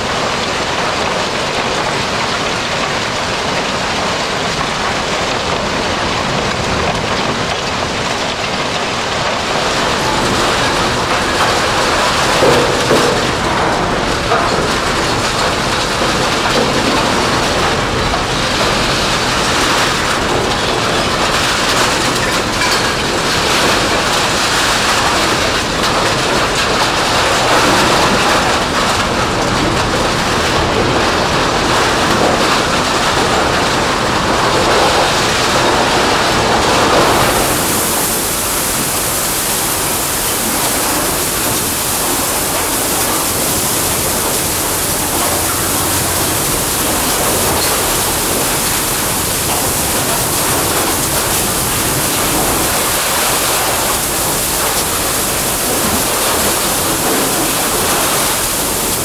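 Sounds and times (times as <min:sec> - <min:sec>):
shredded metal rattling on conveyors: 0:00.0 - 0:59.0.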